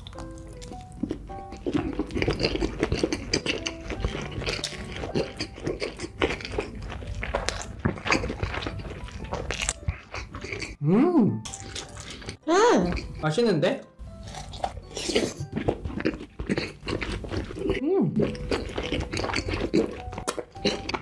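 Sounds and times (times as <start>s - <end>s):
man chewing crunchy food: 0.0s - 10.8s, 11.4s - 13.2s, 14.1s - 21.0s.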